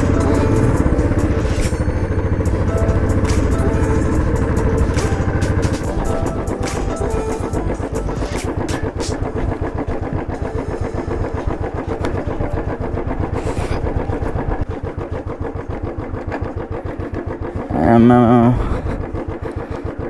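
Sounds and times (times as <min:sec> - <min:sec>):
motorcycle engine idling low: 0:00.0 - 0:20.0.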